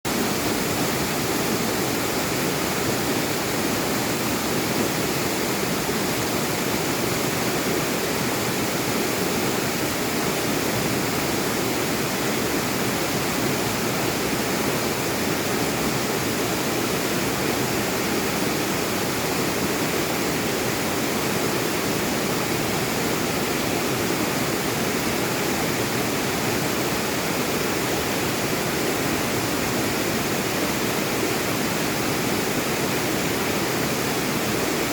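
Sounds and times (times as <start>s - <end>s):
stream rushing over rocks: 0.1s - 34.9s.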